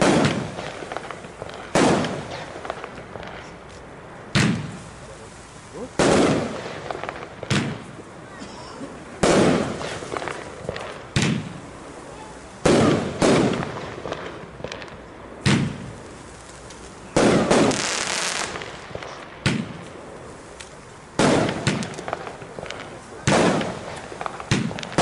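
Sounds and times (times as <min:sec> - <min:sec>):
firework bangs: 0:00.0 - 0:25.0
firework hiss: 0:00.0 - 0:25.0.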